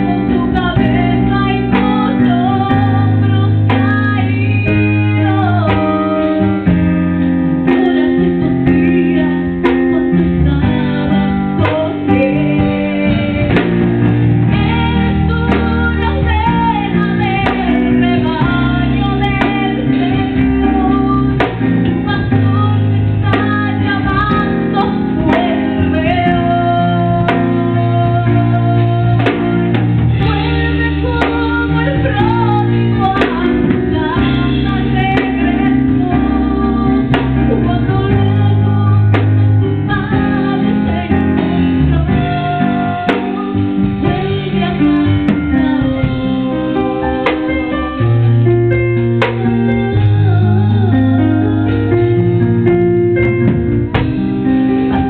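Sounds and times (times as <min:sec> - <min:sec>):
instrumental accompaniment: 0:00.0 - 0:55.0
woman singing into microphone: 0:00.0 - 0:55.0.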